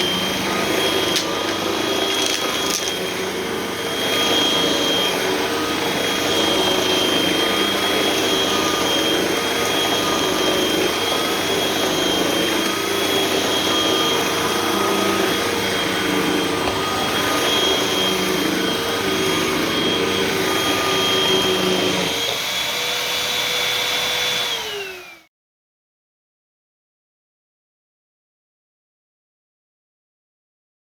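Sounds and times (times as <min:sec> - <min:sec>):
vacuum cleaner motor whine: 0:00.0 - 0:25.3.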